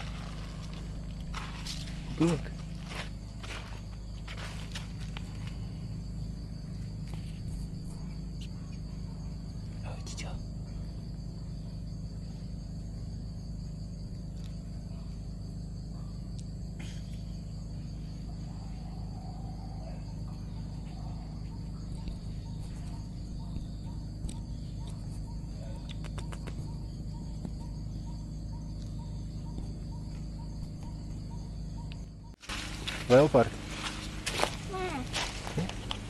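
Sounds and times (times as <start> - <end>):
insects chorus: 0.0 - 36.0.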